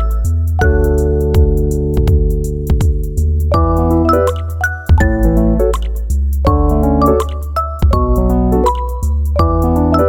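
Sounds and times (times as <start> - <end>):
percussive beat: 0.0 - 10.0
sustained keyboard chords: 0.0 - 10.0.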